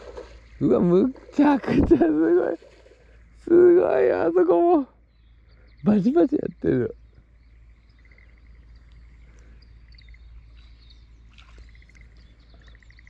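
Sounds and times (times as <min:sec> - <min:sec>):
frogs calling in pulsed trills: 0:00.0 - 0:13.0
thin bird chirps: 0:00.0 - 0:13.0.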